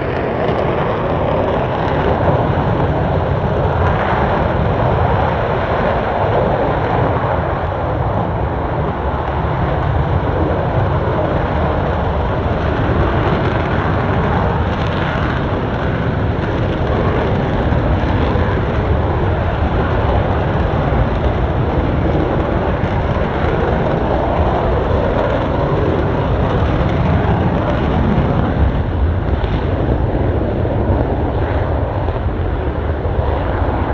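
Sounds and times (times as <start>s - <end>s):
jet engine roaring: 0.0s - 33.9s.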